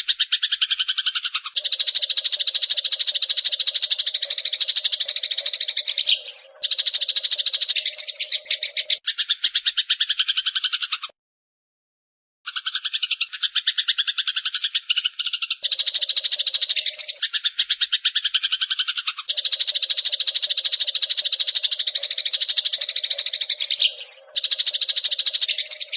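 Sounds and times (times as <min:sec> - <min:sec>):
sparrows chirping: 0:00.0 - 0:11.1, 0:12.5 - 0:25.9.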